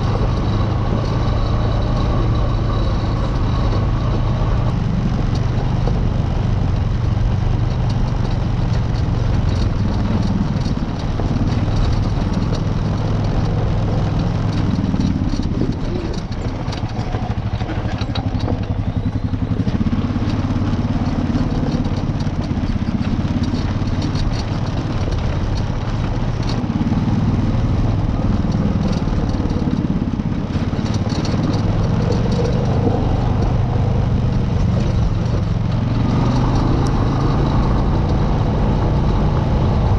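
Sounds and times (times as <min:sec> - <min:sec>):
off-road vehicle engine running: 0:00.0 - 0:39.9
clattering on rocky ground: 0:07.6 - 0:39.9.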